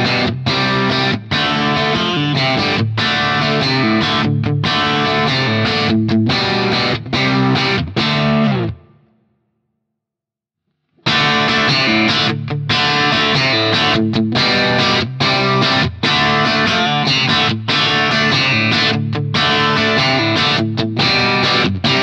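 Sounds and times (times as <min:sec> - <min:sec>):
overdriven electric guitar chords: 0:00.0 - 0:09.1, 0:11.0 - 0:22.0.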